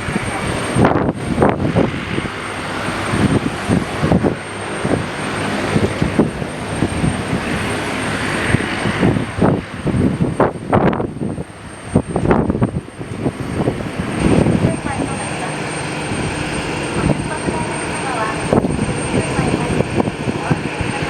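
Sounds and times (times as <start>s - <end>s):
aircraft engines running: 0.0s - 21.0s
wind buffeting microphone: 0.0s - 21.0s.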